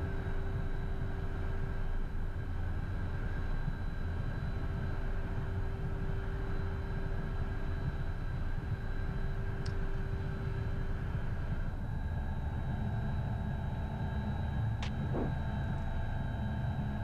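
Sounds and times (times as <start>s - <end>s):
jet engines rumbling with high whine: 0.0s - 17.0s.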